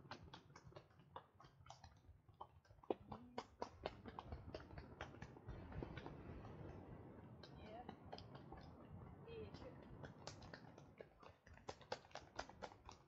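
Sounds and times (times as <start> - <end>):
faint clicks and ticks: 0.0 - 13.0.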